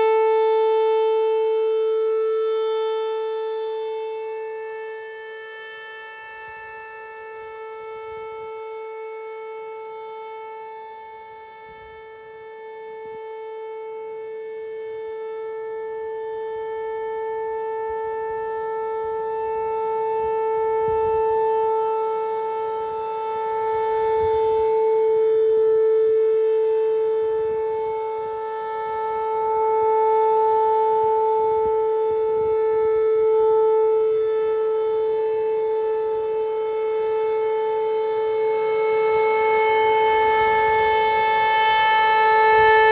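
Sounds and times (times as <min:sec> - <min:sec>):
warning siren steady tone: 0:00.0 - 0:42.9.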